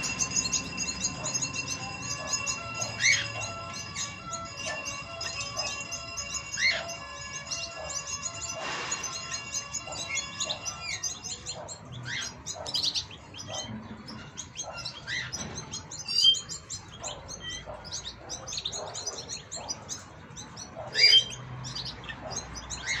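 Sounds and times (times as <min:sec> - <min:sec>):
loud bird call: 0:00.0 - 0:23.0
songbirds chirping and twittering: 0:00.0 - 0:23.0.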